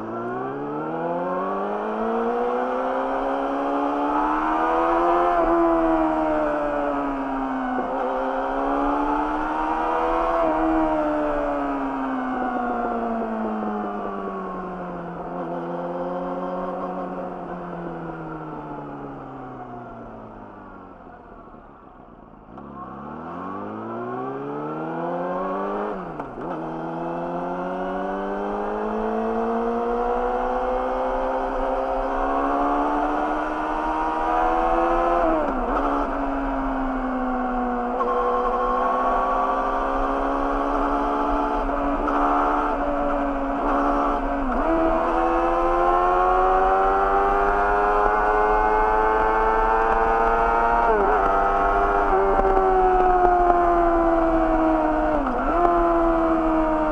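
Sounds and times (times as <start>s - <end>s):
motorcycle engine revving through gears: 0.0s - 56.9s.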